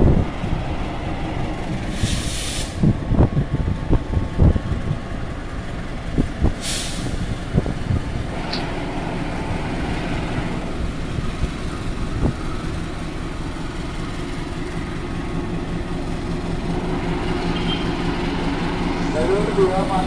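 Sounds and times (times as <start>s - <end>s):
locomotive engine droning: 0.0s - 20.0s.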